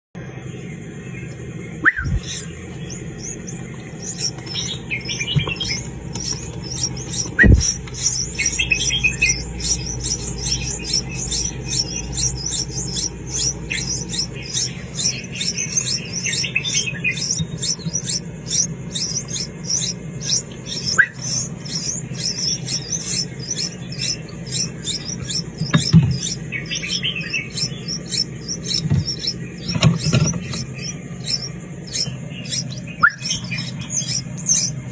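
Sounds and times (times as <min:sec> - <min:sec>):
hatchling birds chirping: 0:00.2 - 0:34.9
steady low hum: 0:00.2 - 0:34.9.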